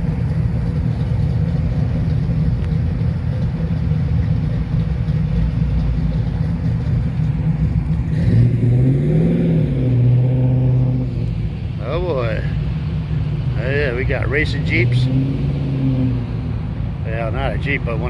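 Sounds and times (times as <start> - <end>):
car engine revving: 0.0 - 18.0
car engines rumbling: 0.0 - 18.0.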